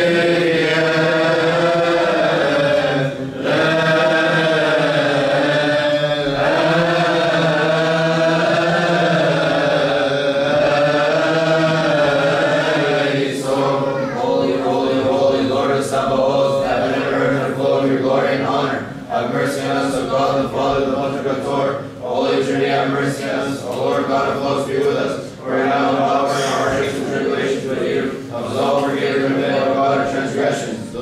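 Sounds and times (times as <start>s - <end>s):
liturgical chanting: 0.0s - 31.0s.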